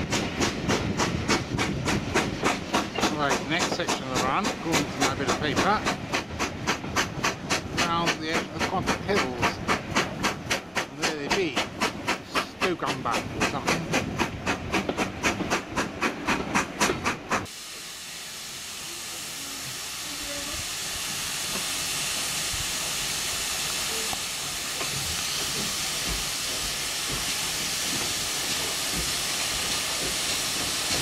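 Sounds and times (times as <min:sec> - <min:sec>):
hiss of escaping steam: 0:00.0 - 0:31.0
steam train running: 0:00.0 - 0:31.0.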